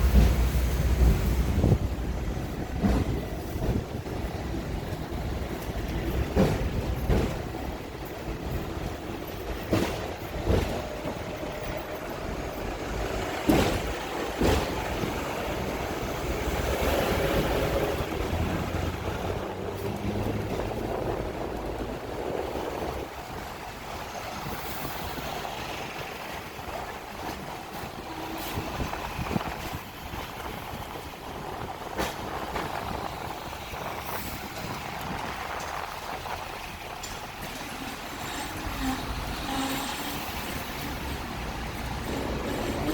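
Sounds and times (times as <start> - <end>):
tram rumbling on rails: 0.0 - 42.9
wheels clacking over rail joints: 0.0 - 42.9.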